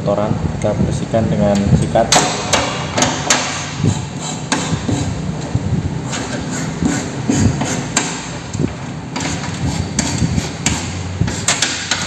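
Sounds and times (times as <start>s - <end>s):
low workshop hum: 0.0s - 12.0s
stiff brush scrubbing metal parts: 2.2s - 12.0s.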